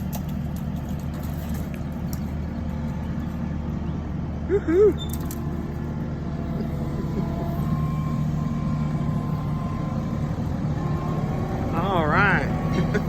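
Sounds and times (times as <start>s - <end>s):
engine running with low drone: 0.0s - 13.0s.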